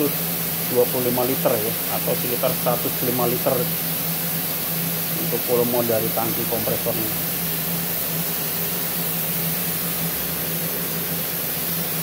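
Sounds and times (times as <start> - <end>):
plasma cutter hissing: 0.0 - 12.0.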